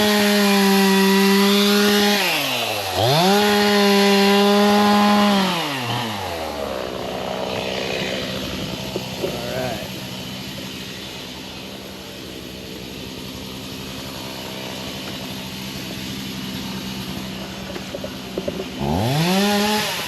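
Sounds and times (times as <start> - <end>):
chainsaw revving: 0.0 - 20.0
engine humming: 1.4 - 20.0.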